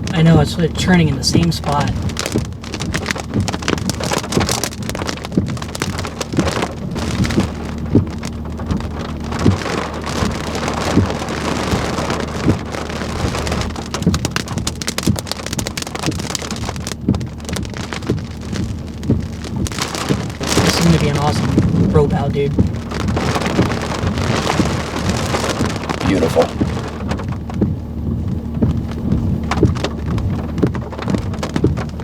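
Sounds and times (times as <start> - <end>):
rain falling: 0.0 - 32.0
steady low hum: 0.0 - 32.0.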